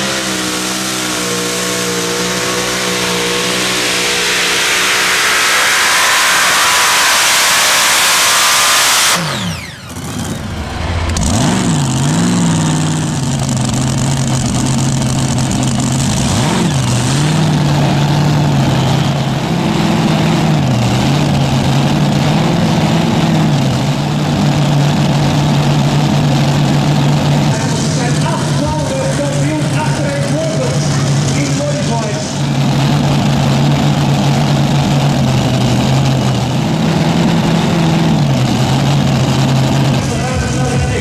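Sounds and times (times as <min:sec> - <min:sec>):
engine idling with light revs: 0:00.0 - 0:41.0
engine winding down whine: 0:00.0 - 0:41.0
tractor engine at full power: 0:00.0 - 0:41.0.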